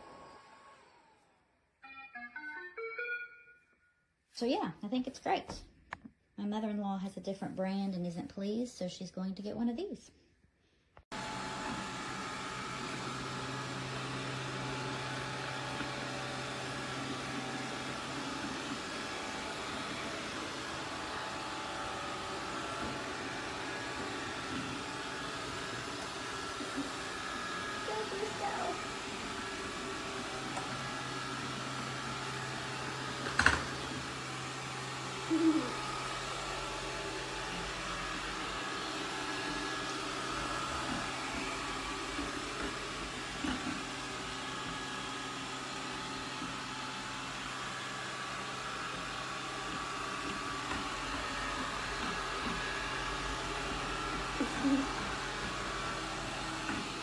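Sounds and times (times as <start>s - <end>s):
robot vacuum motor hum: 11.1s - 57.0s.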